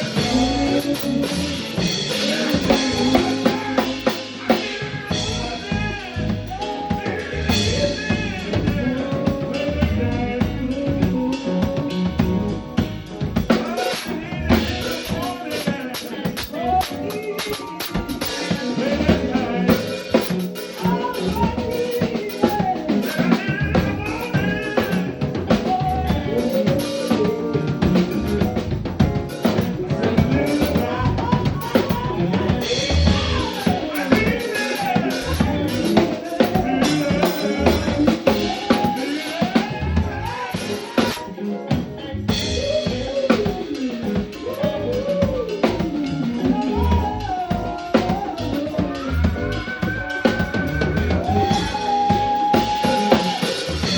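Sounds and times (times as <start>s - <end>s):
drum kit groove: 0.0s - 53.9s
live band playing: 0.0s - 53.9s
sliding lead melody: 0.0s - 53.9s.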